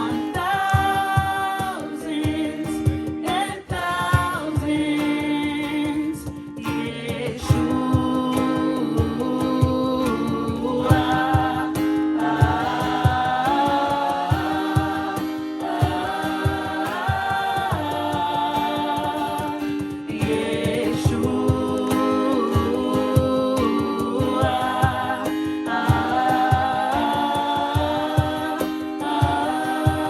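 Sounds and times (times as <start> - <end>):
group singing worship song: 0.0 - 30.0
instrumental accompaniment with beat: 0.0 - 30.0.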